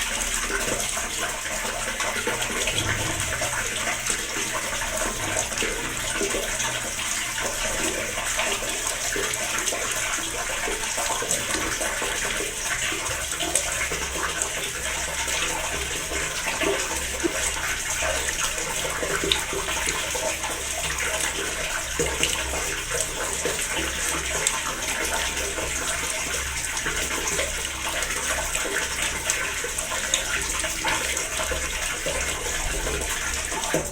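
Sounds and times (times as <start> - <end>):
water trickling and splashing: 0.0 - 33.9.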